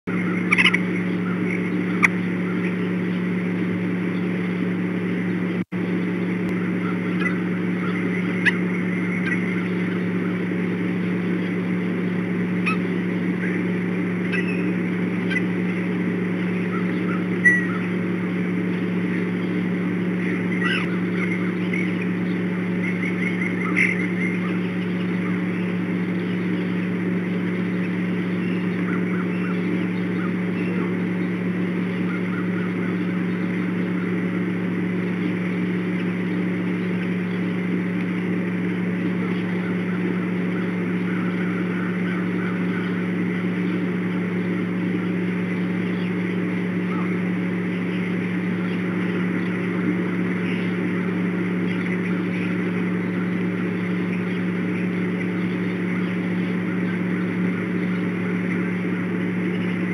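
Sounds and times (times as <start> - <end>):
steady low hum: 0.0 - 59.9
bird calls and chirps: 0.1 - 59.9.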